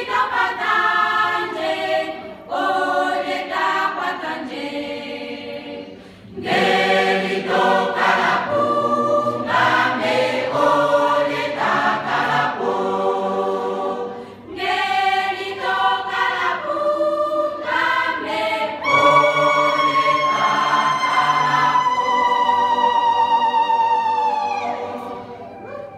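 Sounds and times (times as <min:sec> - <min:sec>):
church choir singing unaccompanied: 0:00.0 - 0:25.9.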